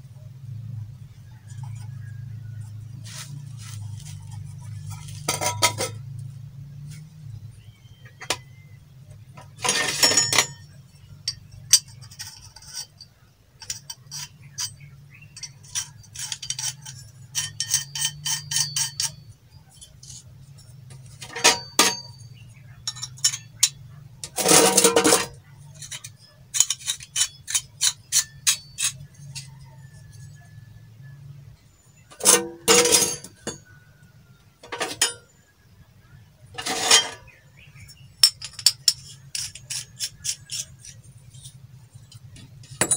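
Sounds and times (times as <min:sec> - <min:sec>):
parts rattling in a tin can: 0:01.1 - 0:07.0, 0:07.6 - 0:30.6, 0:32.1 - 0:33.9, 0:34.6 - 0:35.3, 0:36.5 - 0:42.9
metal pipe fittings clinking: 0:01.4 - 0:06.3, 0:08.0 - 0:08.7, 0:09.4 - 0:30.5, 0:32.1 - 0:33.9, 0:34.6 - 0:35.3, 0:36.6 - 0:42.9.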